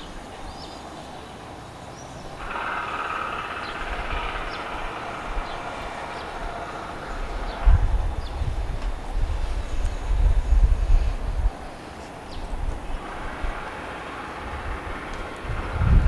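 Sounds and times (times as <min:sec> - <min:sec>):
steady outdoor noise: 0:00.0 - 0:16.0
wind gusts on microphone: 0:00.0 - 0:16.0.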